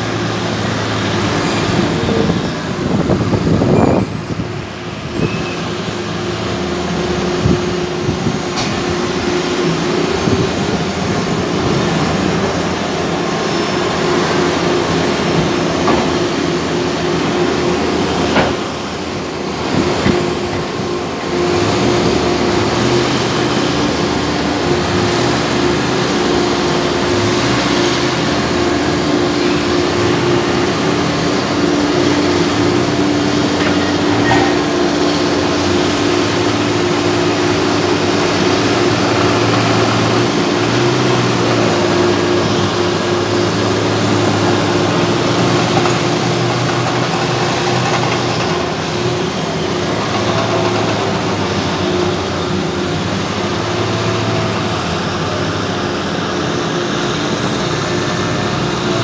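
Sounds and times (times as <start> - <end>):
crane machinery drone: 0.0 - 59.0.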